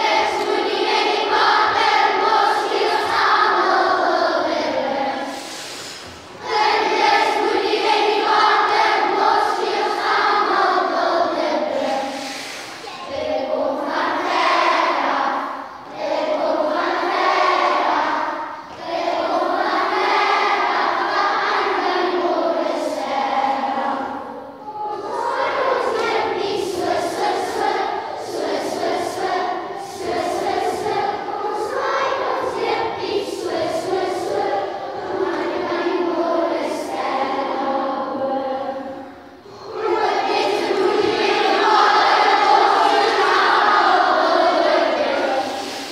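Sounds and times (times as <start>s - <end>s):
young children singing together: 0.0s - 45.9s.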